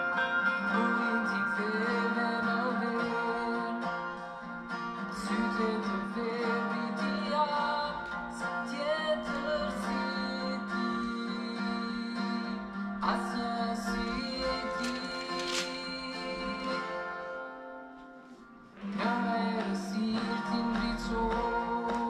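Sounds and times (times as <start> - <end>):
person singing: 0.0 - 17.6, 18.8 - 22.0
guitar music: 0.0 - 22.0.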